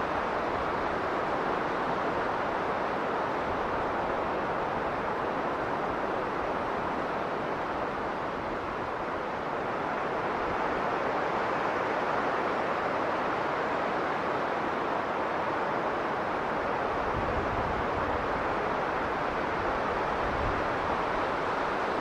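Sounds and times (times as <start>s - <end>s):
strong blizzard wind: 0.0s - 22.0s.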